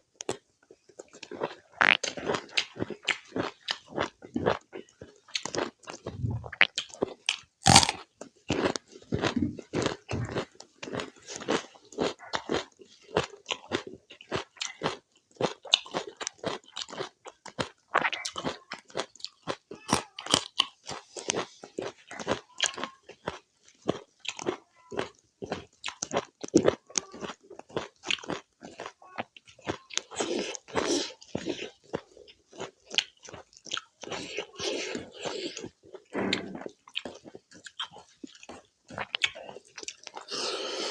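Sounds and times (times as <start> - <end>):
chewing and crunching: 0.1 - 40.9.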